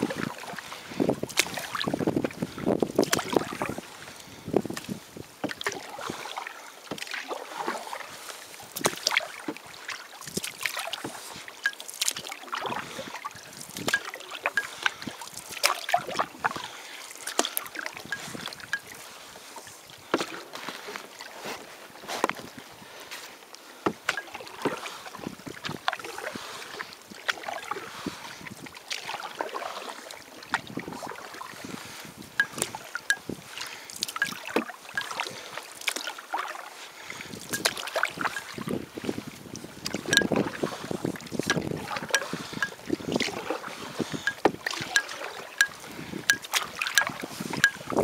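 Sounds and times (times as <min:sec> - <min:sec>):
water splashing against canoe: 0:00.0 - 0:48.0.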